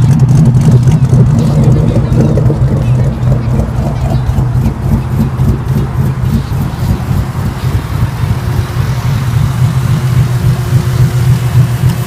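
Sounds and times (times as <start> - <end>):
car engine loping idle: 0.0 - 12.0.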